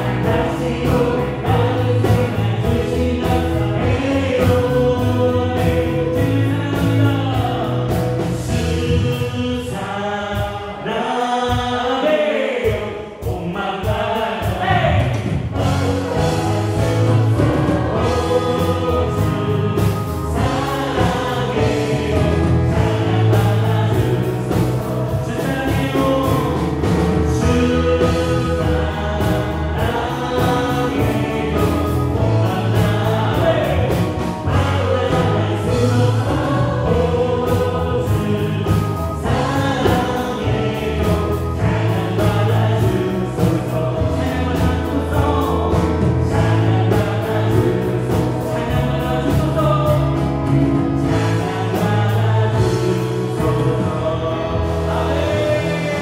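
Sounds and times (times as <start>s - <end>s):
electric and bass guitars: 0.0s - 9.7s, 15.2s - 56.0s
drum kit: 0.0s - 56.0s
group of voices singing: 0.0s - 56.0s
keyboards: 0.0s - 56.0s.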